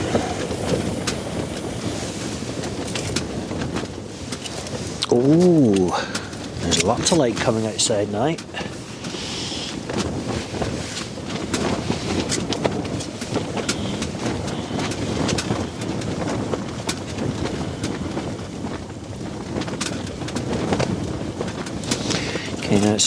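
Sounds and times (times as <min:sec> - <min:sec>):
tent fabric snapping and rattling: 0:00.0 - 0:23.0
wind buffeting tent: 0:00.0 - 0:23.0.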